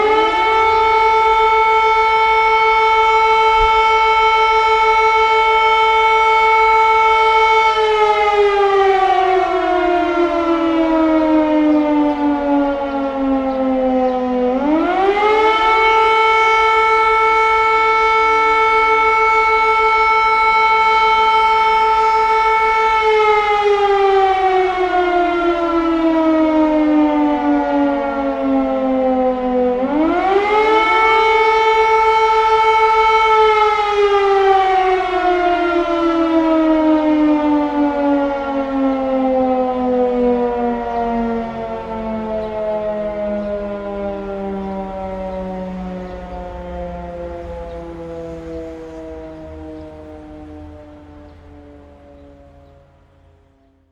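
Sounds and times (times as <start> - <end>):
air raid siren wailing: 0.0 - 53.9.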